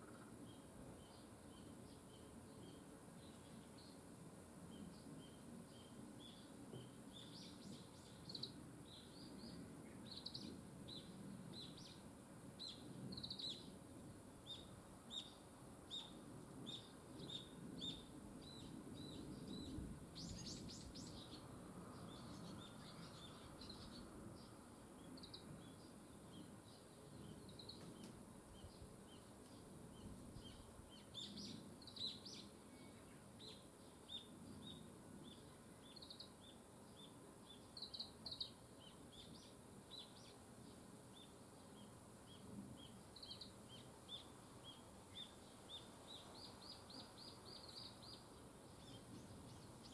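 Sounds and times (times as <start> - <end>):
faint outdoor ambience: 0.0 - 49.9
small birds chirping: 0.0 - 49.9.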